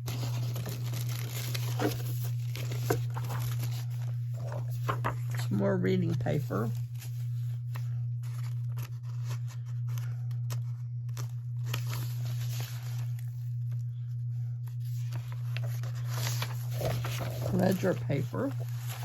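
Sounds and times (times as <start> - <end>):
paper rustling and crinkling: 0.0 - 13.8, 14.7 - 19.0
steady low hum: 0.0 - 19.0.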